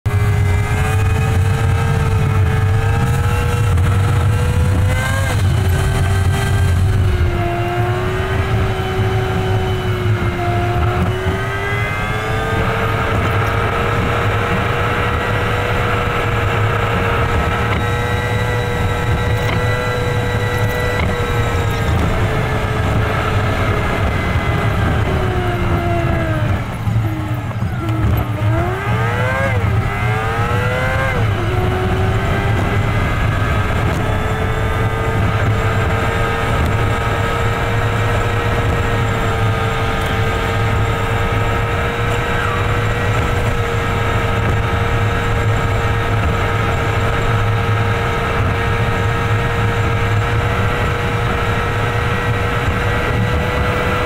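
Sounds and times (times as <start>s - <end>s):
road noise rumble: 0.0s - 54.0s
truck engine whine: 0.0s - 54.0s.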